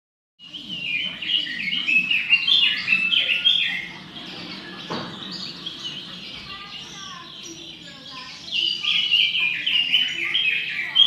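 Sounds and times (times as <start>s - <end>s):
bird warbling song: 0.4s - 11.0s.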